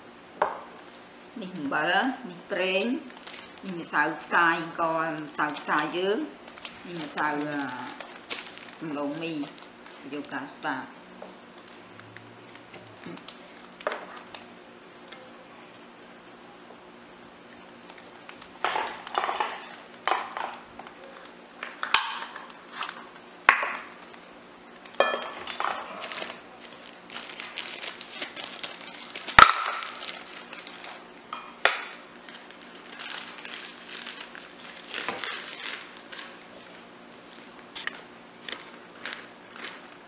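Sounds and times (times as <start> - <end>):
plastic bag crinkling: 2.9 - 10.4, 11.4 - 15.2, 17.5 - 40.0.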